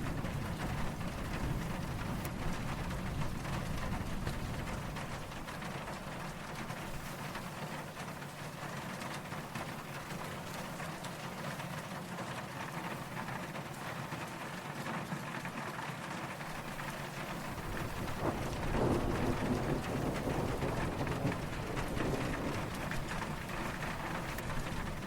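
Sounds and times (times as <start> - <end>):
distant thunder rumble: 0.0 - 11.7, 16.5 - 25.0
rain falling: 0.0 - 25.0.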